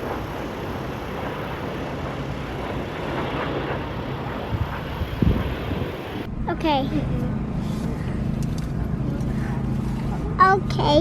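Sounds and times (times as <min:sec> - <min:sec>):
airplane engine rush: 0:00.0 - 0:11.0.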